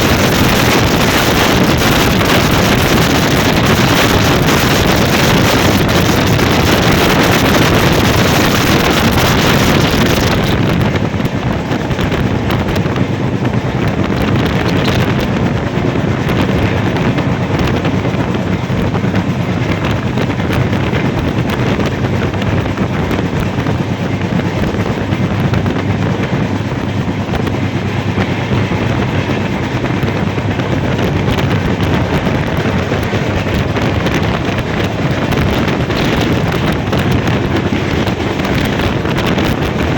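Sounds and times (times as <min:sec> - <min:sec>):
train running on rails: 0:00.0 - 0:39.9
wind buffeting microphone: 0:00.0 - 0:39.9.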